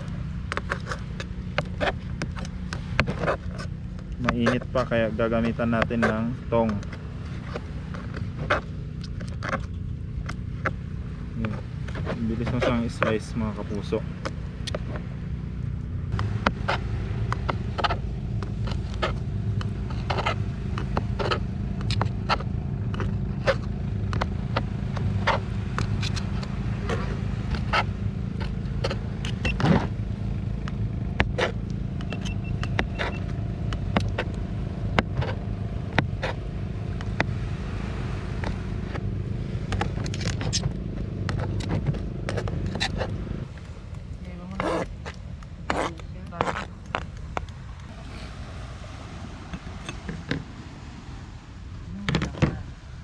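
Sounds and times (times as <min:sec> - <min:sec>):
low motor hum: 0:00.0 - 0:53.0.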